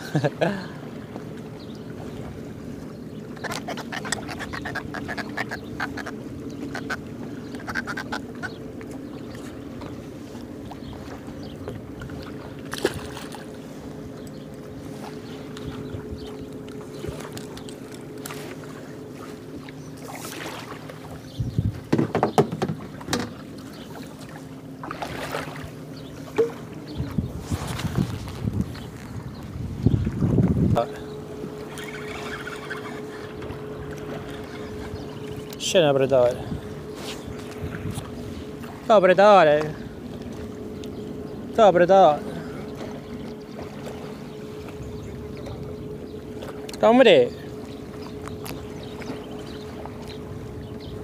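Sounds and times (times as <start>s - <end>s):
boat motor running: 0.0s - 51.0s.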